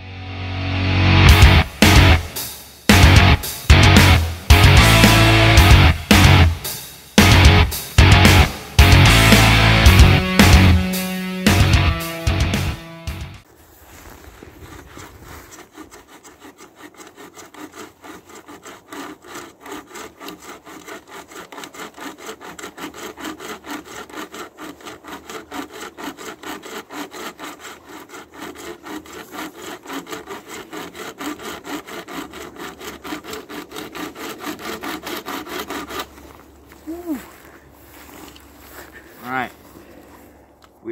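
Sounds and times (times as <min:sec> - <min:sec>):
chain saw cutting log by hand: 0:01.3 - 0:13.4, 0:14.5 - 0:39.2.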